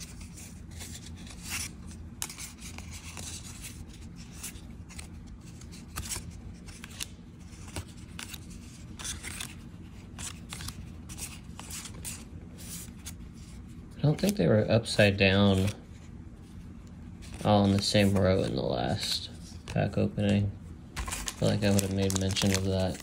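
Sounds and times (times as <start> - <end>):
cards clicking and rustling: 0.0 - 16.0, 17.2 - 23.0.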